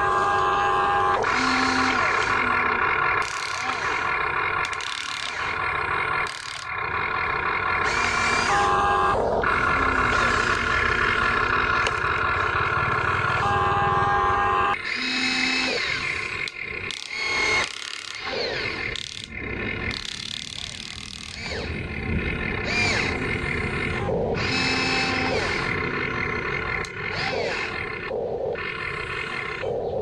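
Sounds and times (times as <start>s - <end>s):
toy excavator motors whining: 0.0s - 30.0s.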